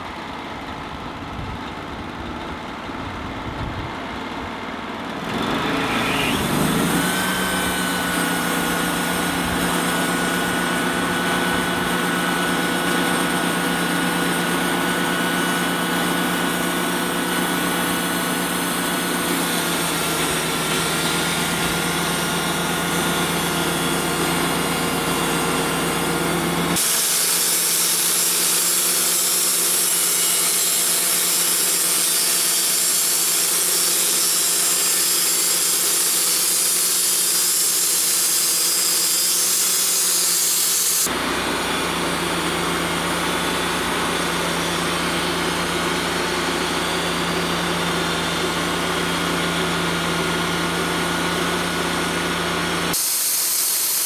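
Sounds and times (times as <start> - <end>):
band sawmill sawing wood: 4.9 - 54.0.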